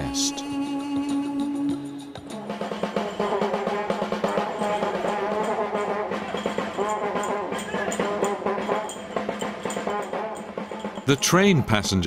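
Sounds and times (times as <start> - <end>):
wind instrument melody: 0.0 - 11.7.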